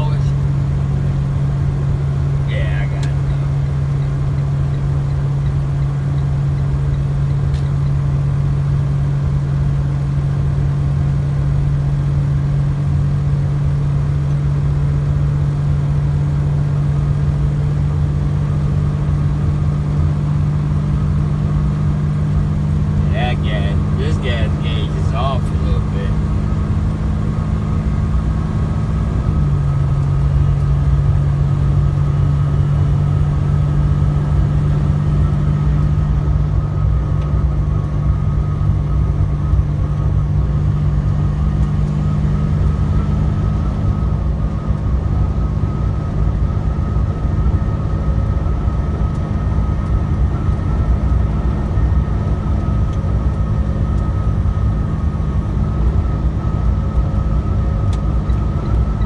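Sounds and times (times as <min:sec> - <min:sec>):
road noise: 0:00.0 - 0:59.0
truck engine drone: 0:00.0 - 0:59.0.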